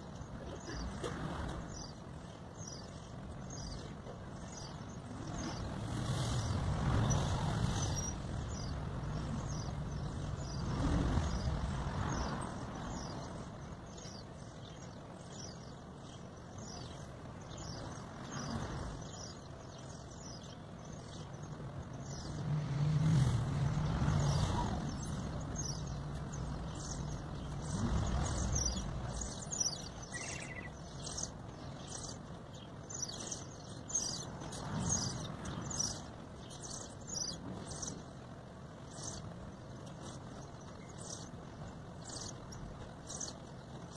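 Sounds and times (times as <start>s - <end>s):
road traffic passing: 0.0s - 43.9s
small birds chirping: 0.0s - 43.9s.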